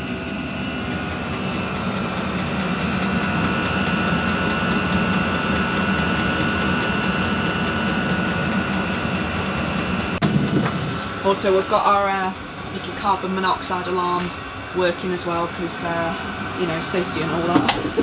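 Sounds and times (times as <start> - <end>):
air heater humming: 0.0 - 18.0
high whine: 0.0 - 18.0.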